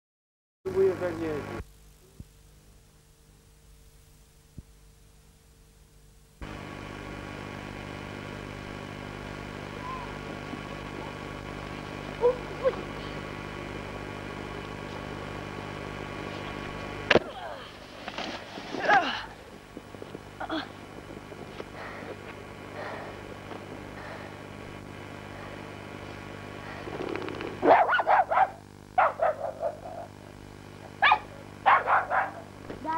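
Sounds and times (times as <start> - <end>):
camcorder hiss and hum: 0.7 - 32.9.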